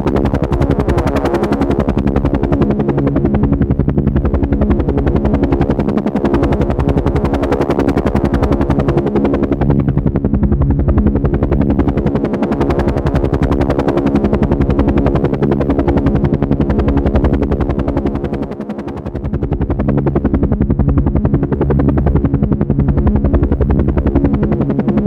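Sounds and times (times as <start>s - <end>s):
helicopter rotor chopping: 0.0s - 25.0s.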